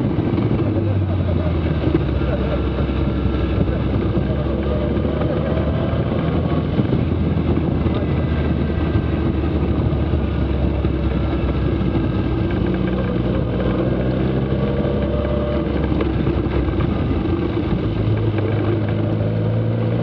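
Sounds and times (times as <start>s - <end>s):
car engine running: 0.0s - 20.0s
road noise: 0.0s - 20.0s
wind noise: 0.0s - 20.0s.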